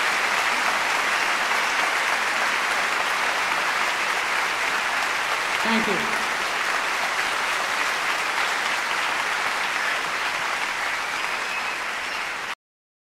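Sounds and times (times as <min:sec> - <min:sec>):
group of people applauding: 0:00.0 - 0:12.6.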